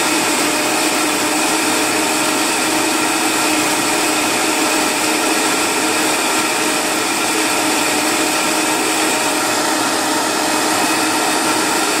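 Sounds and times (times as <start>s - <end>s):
blender motor whirring: 0.0s - 12.0s.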